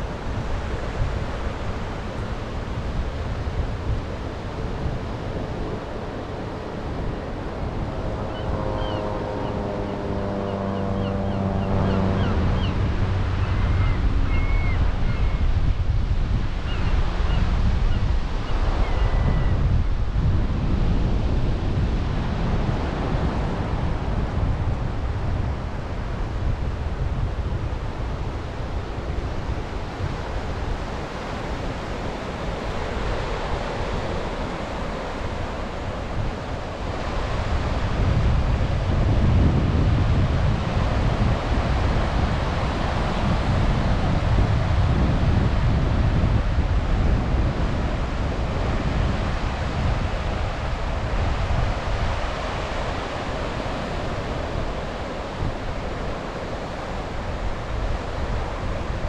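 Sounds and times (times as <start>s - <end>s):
sea waves washing onto beach: 0.0s - 8.2s, 18.2s - 59.0s
wind buffeting microphone: 0.0s - 59.0s.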